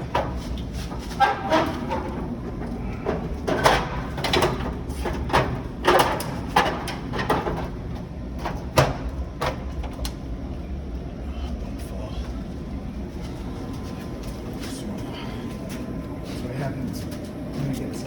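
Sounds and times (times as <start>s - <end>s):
furnace humming: 0.0s - 18.0s.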